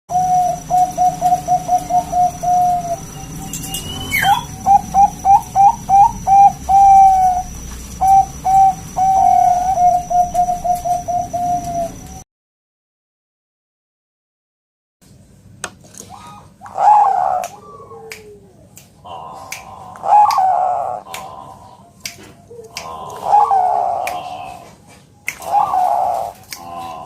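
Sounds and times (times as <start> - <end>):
dove cooing: 0.1 - 12.2, 16.0 - 27.0.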